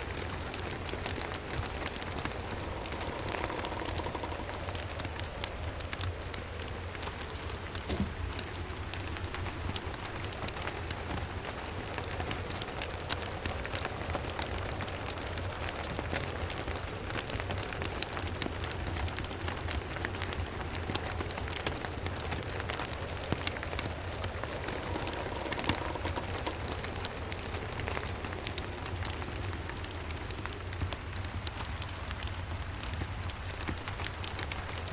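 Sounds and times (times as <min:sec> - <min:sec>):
rain falling: 0:00.0 - 0:34.9
wood fire crackling: 0:00.0 - 0:34.9.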